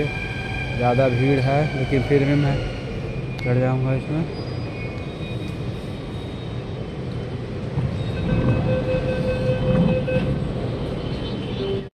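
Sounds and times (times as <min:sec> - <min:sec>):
train rumbling to a stop: 0:00.0 - 0:11.9.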